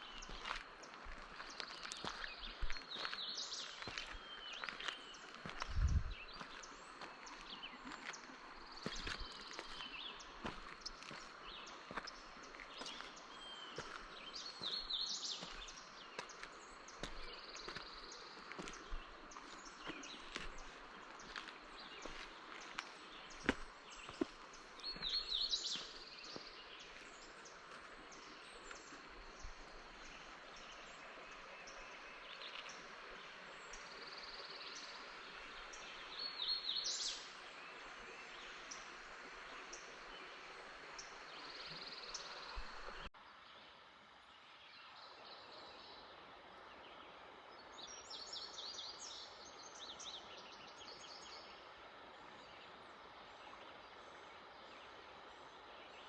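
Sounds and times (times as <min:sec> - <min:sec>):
songbirds chirping and trilling: 0:00.0 - 0:56.0
steady outdoor hiss: 0:00.0 - 0:56.0.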